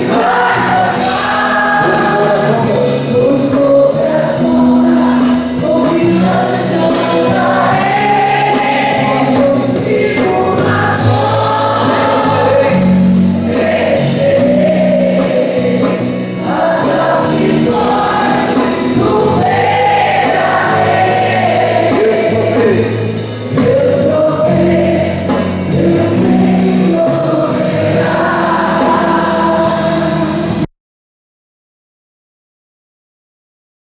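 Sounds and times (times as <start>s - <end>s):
group singing worship song: 0.0s - 30.7s
instrumental accompaniment: 0.0s - 30.7s.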